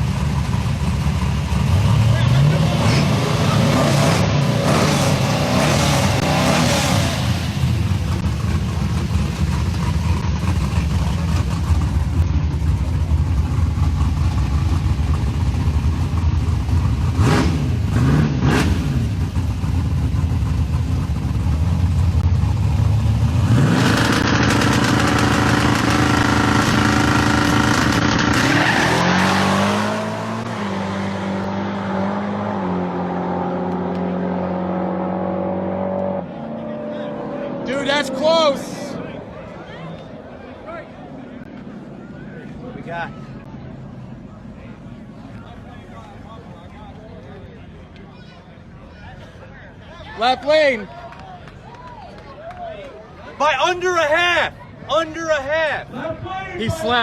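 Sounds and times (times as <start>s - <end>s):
pickup engines revving: 0.0s - 46.2s.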